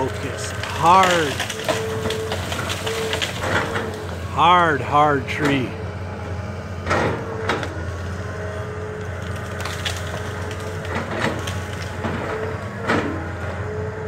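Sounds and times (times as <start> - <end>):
wood cracking and splintering: 0.0 - 4.8, 6.9 - 13.8
excavator diesel engine: 0.0 - 14.0.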